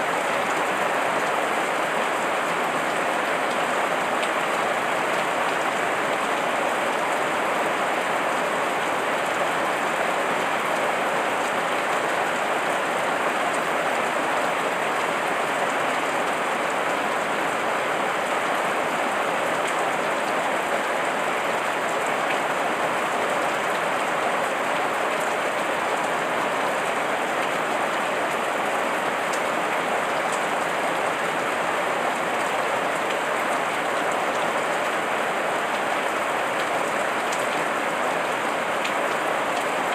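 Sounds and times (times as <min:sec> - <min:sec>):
heavy rain pattering on leaves: 0:00.0 - 0:39.9.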